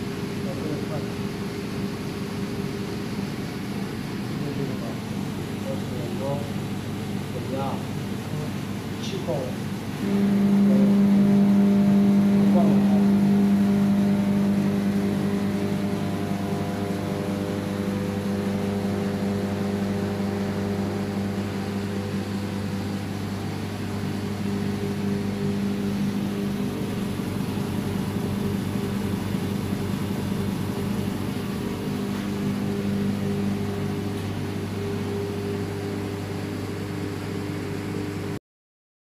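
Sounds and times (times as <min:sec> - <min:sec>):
vacuum pump humming: 0:00.0 - 0:38.4.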